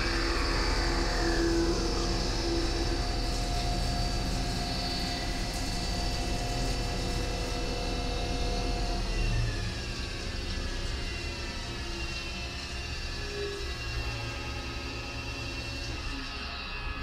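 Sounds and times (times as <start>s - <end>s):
spindle drive whine: 0.0s - 17.0s.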